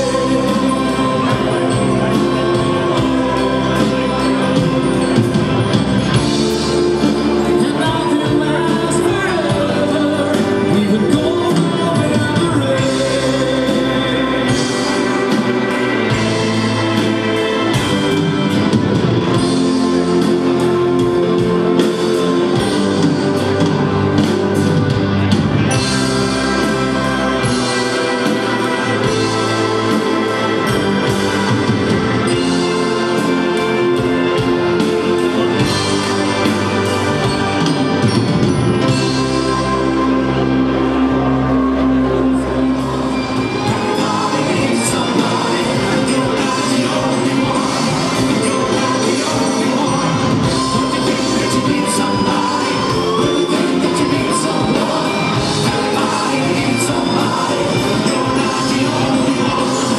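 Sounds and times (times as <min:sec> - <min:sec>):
brass and reed chords: 0:00.0 - 0:59.9
drum kit with cymbal hits: 0:00.0 - 0:59.9.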